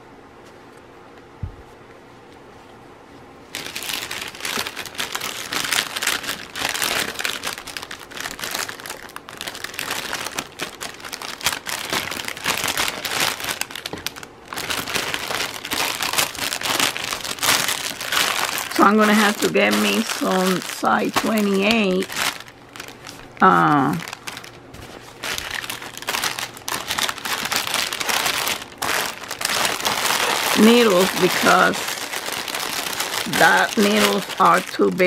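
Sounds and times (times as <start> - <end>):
plastic packaging crinkling: 3.5 - 35.0.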